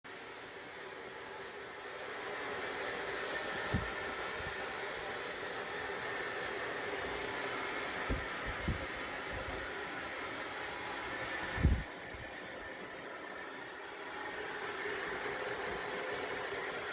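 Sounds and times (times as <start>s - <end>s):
hair dryer blowing: 0.1s - 16.9s.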